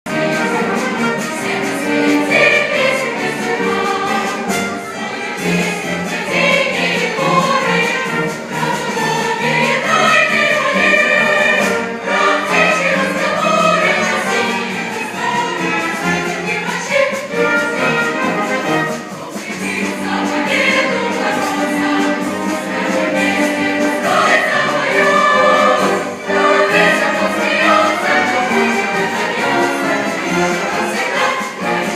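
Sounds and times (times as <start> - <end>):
choir singing: 0.1 - 31.9
instrumental accompaniment: 0.1 - 31.9.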